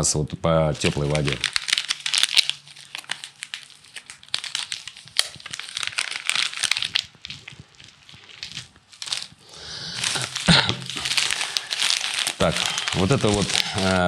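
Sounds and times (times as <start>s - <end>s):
plastic packets crinkling: 0.7s - 14.0s.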